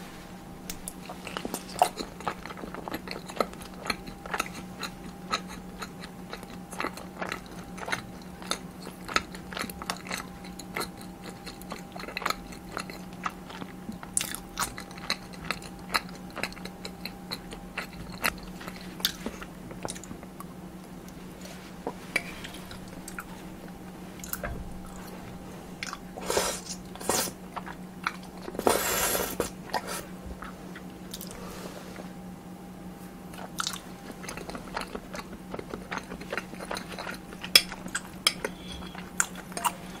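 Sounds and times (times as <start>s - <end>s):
faint steady hum: 0.0s - 40.0s
person chewing crunchy food: 0.7s - 31.7s, 33.2s - 40.0s.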